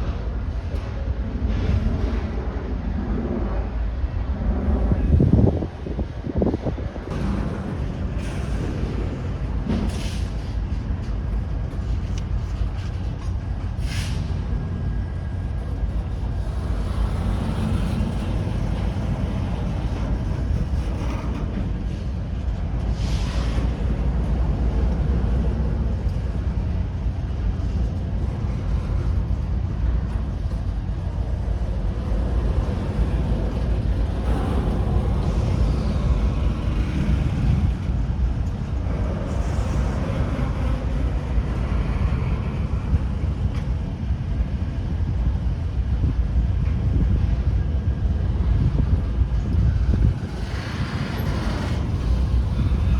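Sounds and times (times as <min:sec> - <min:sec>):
freight train rumbling: 0:00.0 - 0:52.9.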